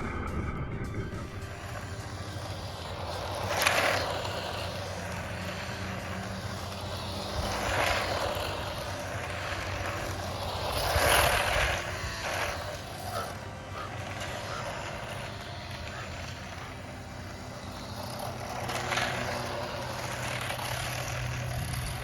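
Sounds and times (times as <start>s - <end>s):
toy car tyres rolling: 1.2s - 22.0s
toy car electric motor whirring: 1.3s - 22.0s.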